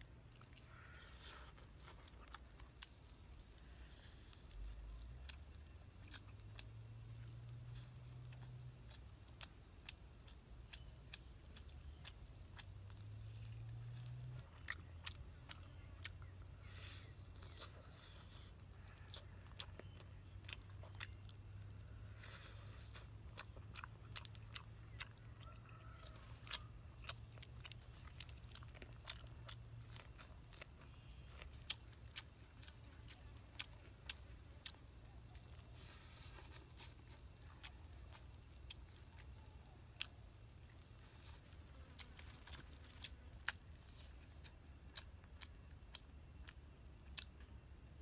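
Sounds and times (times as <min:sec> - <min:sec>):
faint low hum: 0:00.0 - 0:48.0
person chewing food: 0:00.0 - 0:48.0.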